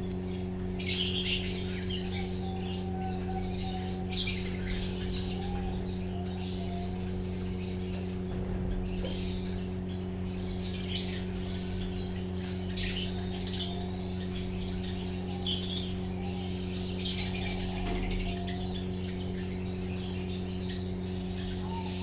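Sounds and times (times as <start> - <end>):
small birds chirping and twittering: 0.0 - 22.0
steady low hum: 0.0 - 22.0.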